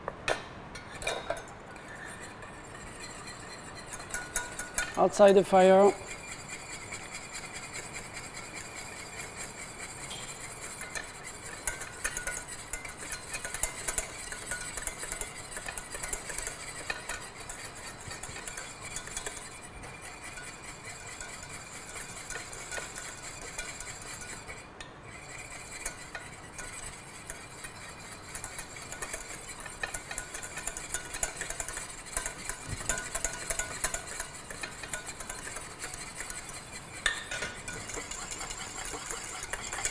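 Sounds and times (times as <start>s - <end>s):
whisk scraping a steel pan: 0.8s - 39.9s.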